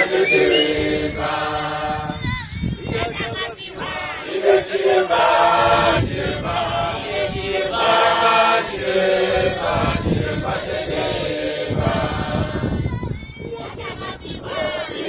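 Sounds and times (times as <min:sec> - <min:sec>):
congregation singing a hymn: 0:00.0 - 0:12.9, 0:13.5 - 0:15.0.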